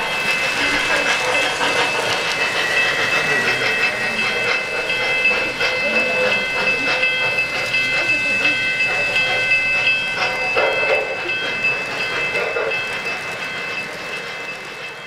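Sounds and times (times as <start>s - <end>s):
model train wheels clicking: 0.0s - 15.0s.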